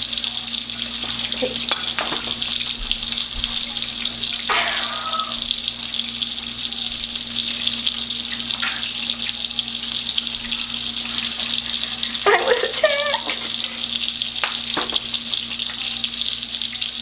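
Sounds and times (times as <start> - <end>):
steak sizzling in a pan: 0.0 - 17.0.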